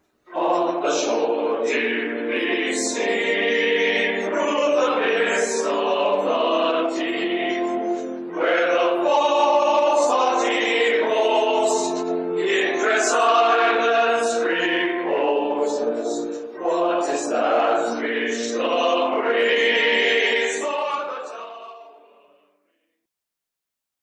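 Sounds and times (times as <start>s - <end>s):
choir singing slow song: 0.3s - 22.4s.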